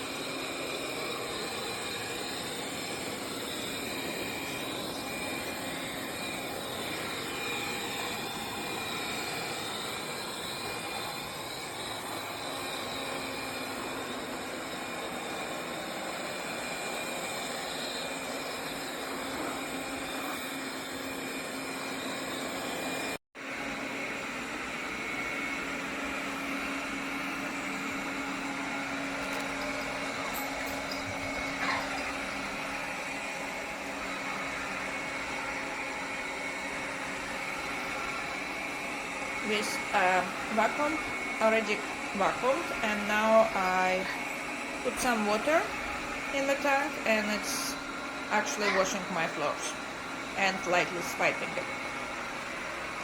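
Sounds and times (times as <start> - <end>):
robot vacuum whirring: 0.0 - 53.0.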